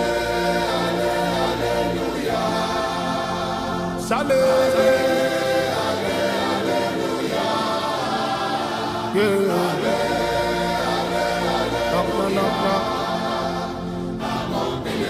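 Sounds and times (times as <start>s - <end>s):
choir singing gospel song: 0.0s - 15.0s.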